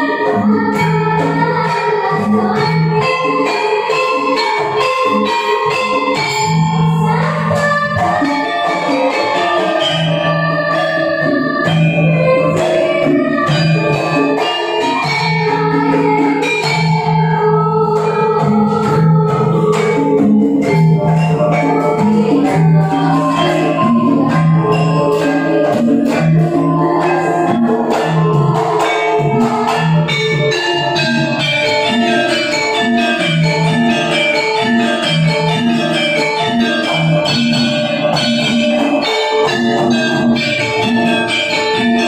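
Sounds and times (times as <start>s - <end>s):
metallophones and gong-chimes: 0.0s - 42.0s.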